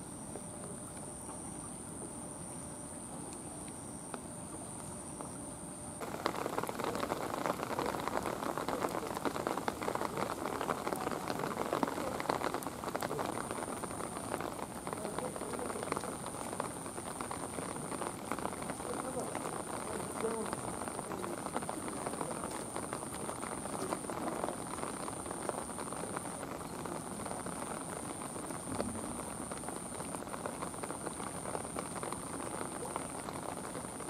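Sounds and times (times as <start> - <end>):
faint hiss: 0.0 - 34.0
rain pattering: 6.0 - 34.0.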